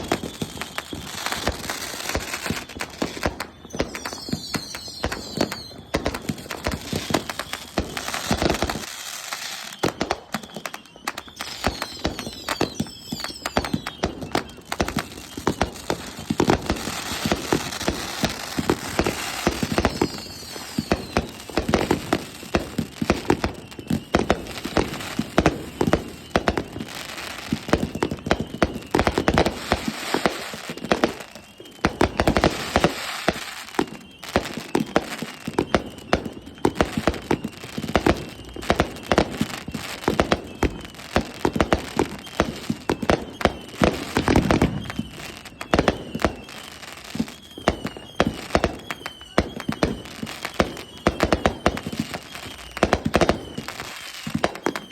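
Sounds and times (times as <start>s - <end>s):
falling firework whistle: 0.0s - 54.9s
fireworks bangs and crackling: 0.0s - 54.9s.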